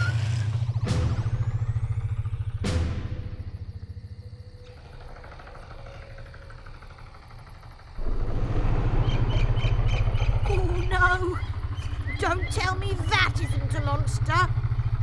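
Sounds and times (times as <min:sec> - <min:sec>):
vehicle engine rumble: 0:00.0 - 0:15.0
faint insects chirping: 0:00.3 - 0:15.0.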